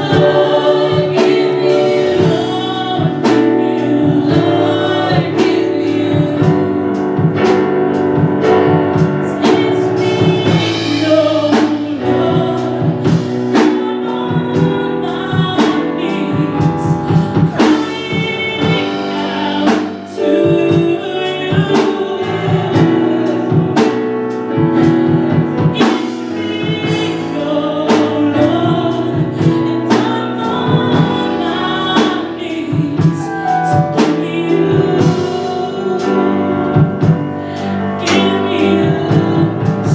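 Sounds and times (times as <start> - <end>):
voices singing: 0.0 - 7.6, 8.8 - 24.0, 24.8 - 39.9
gospel band playing: 0.0 - 39.9.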